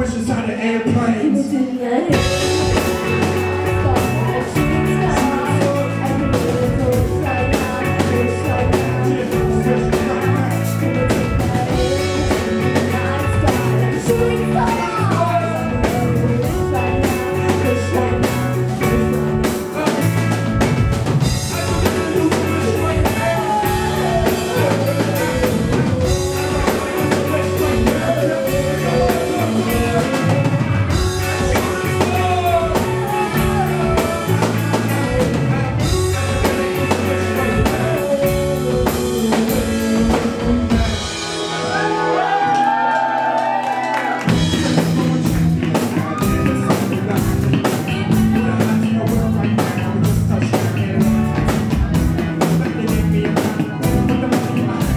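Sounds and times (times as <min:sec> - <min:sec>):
live band playing: 0:00.0 - 0:54.9
person singing: 0:00.0 - 0:54.9.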